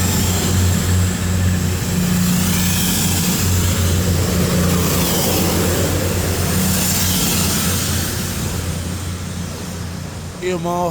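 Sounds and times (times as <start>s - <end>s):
train diesel engines droning: 0.0s - 10.9s.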